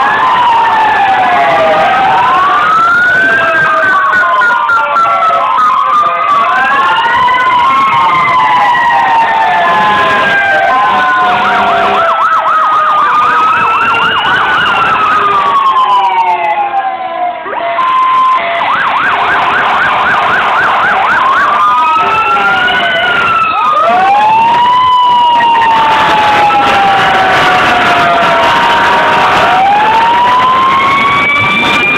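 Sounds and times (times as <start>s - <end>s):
fire truck sirens: 0.0s - 31.9s.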